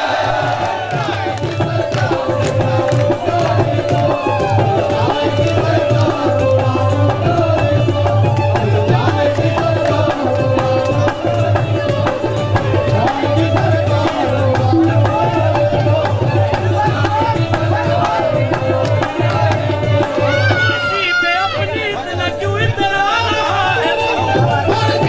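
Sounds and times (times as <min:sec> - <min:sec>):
fast hand-drum strokes: 0:00.0 - 0:21.7.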